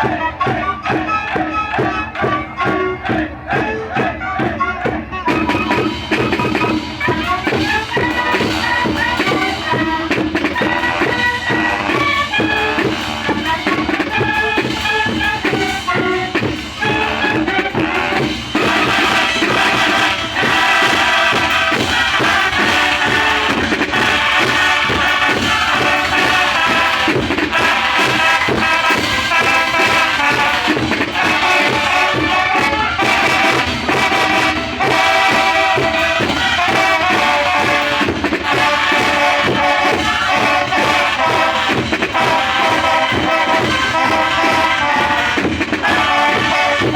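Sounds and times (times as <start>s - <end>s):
drums beating: 0.0s - 46.9s
marching band horns: 0.0s - 46.9s.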